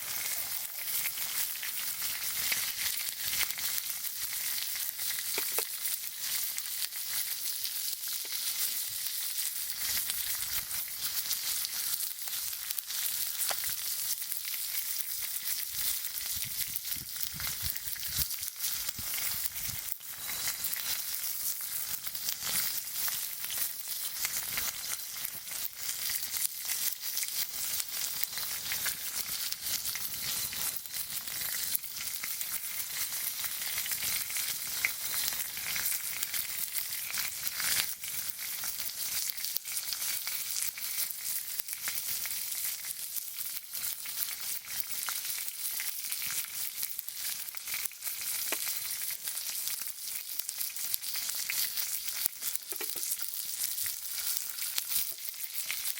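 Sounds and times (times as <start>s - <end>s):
meat sizzling over campfire: 0.0s - 55.9s.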